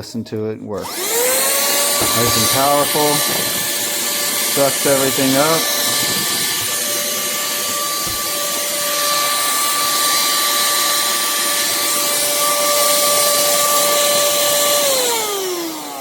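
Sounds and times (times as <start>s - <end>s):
handheld vacuum cleaner running: 0.8s - 16.0s.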